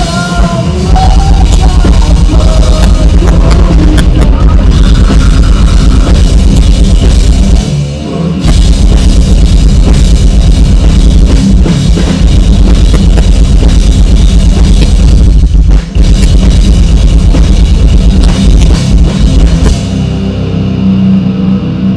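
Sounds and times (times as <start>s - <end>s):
bass guitar: 0.0s - 21.9s
distorted electric guitars: 0.0s - 21.9s
pounding drum kit: 0.0s - 21.9s.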